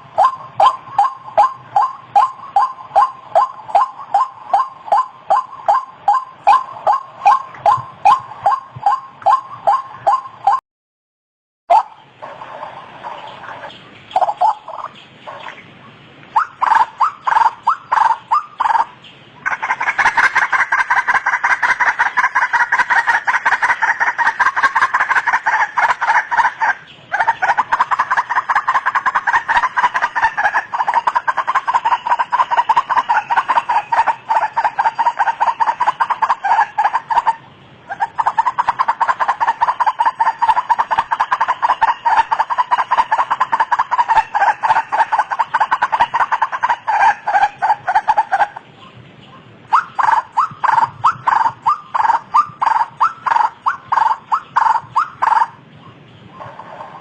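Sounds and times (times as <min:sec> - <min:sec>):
waterhen calling: 0:00.0 - 0:10.6, 0:11.7 - 0:57.0.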